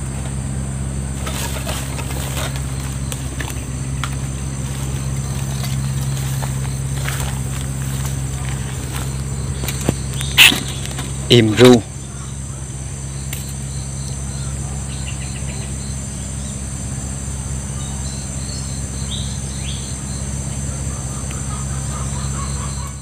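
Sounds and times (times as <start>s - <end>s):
insects chirping: 0.0s - 23.0s
steady low hum: 0.0s - 23.0s.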